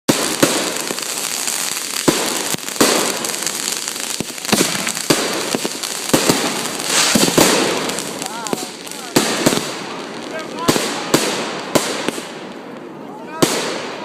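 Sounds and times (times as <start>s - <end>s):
firework bangs: 0.1s - 14.0s
fireworks crackling hiss: 0.1s - 14.0s.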